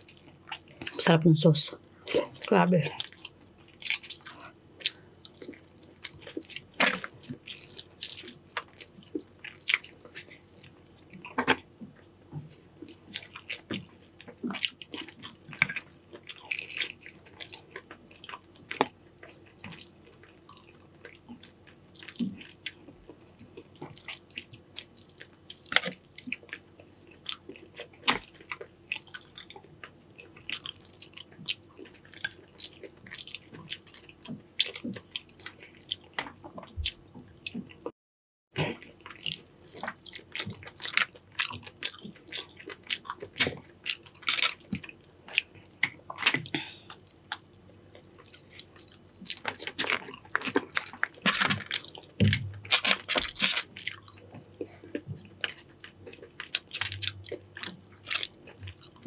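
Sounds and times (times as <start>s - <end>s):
person chewing wetly: 0.0s - 1.1s, 1.7s - 37.9s, 38.6s - 59.0s.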